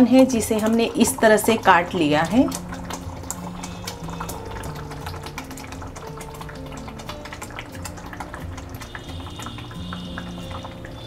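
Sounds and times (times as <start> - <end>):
curry bubbling and popping: 0.0 - 11.0
soft background music: 0.0 - 11.0.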